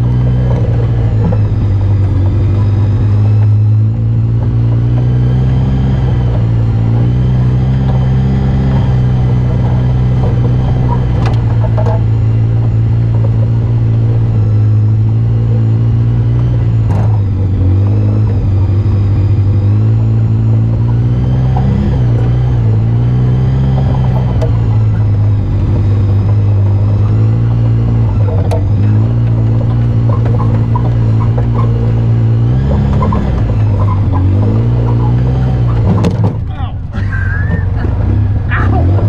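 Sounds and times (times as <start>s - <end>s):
off-road vehicle engine: 0.0s - 39.0s.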